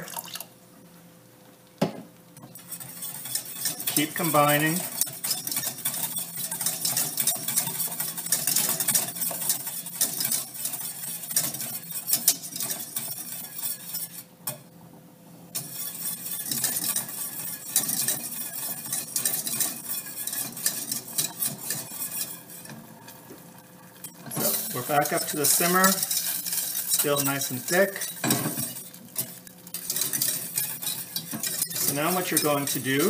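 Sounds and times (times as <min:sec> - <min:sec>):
whisk clicking against pot: 0:02.4 - 0:14.3, 0:15.6 - 0:33.0.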